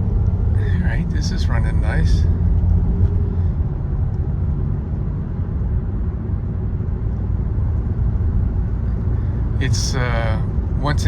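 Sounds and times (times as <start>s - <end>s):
car engine rumble: 0.0s - 11.0s
road noise inside car: 0.0s - 11.0s.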